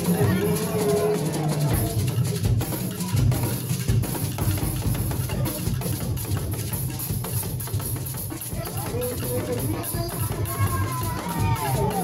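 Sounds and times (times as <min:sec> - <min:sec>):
drums playing dance beat: 0:00.0 - 0:12.0.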